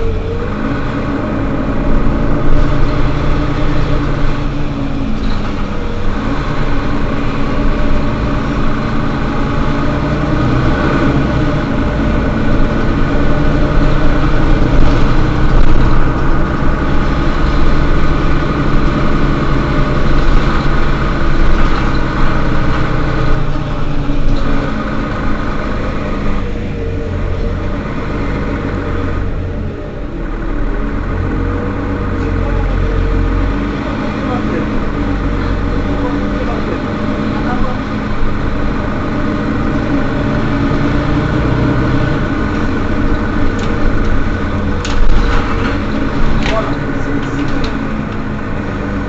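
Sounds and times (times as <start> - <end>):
bus diesel engine idling: 0.0 - 49.0.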